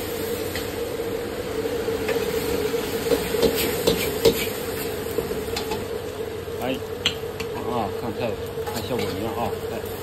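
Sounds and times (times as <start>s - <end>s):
food sizzling in a wok: 0.0s - 10.0s
gas wok burner rushing: 0.0s - 10.0s.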